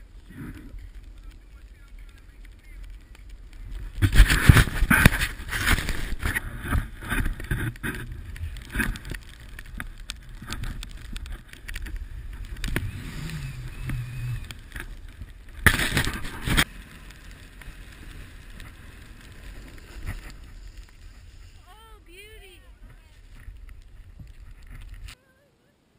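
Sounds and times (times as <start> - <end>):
snowboard scraping over snow: 0.0 - 25.2.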